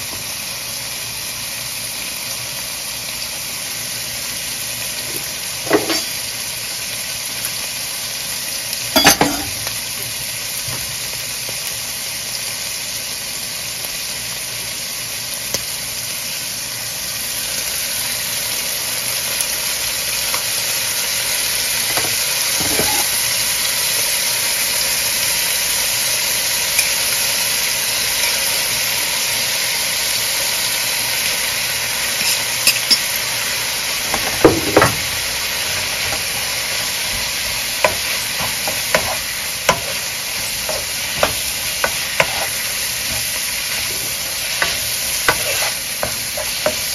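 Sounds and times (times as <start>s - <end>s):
food sizzling in a wok: 0.0s - 46.9s.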